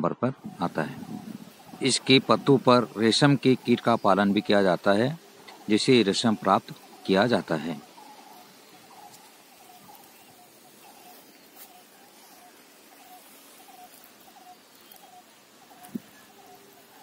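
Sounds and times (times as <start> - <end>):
faint animal calls: 0.4 - 17.0.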